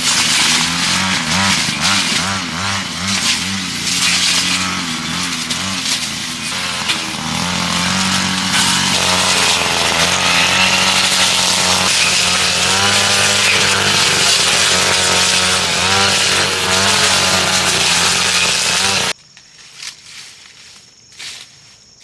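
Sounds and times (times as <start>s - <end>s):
small engine running: 0.3s - 19.2s.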